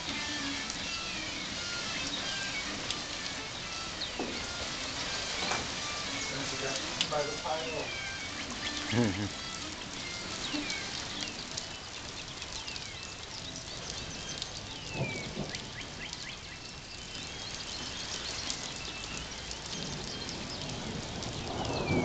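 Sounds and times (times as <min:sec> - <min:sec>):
steady hiss: 0:00.0 - 0:22.0
birds whistling: 0:00.1 - 0:22.0.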